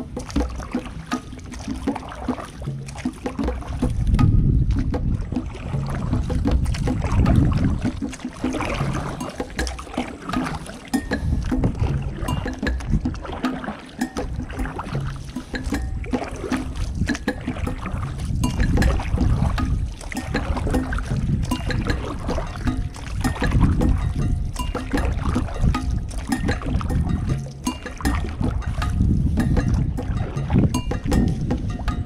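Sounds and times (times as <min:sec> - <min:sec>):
wind buffeting microphone: 0:03.4 - 0:32.0.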